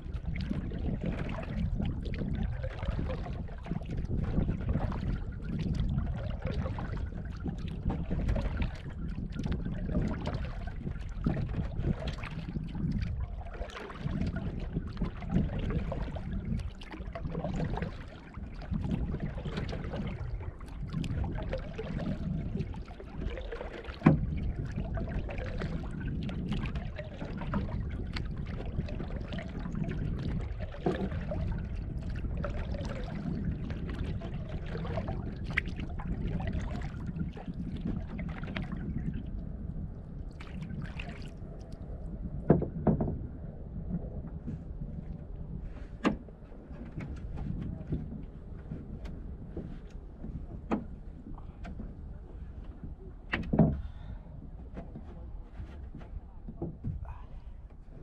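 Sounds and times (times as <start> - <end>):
paddle strokes: 0.0 - 58.0
water gurgling along hull: 0.0 - 58.0.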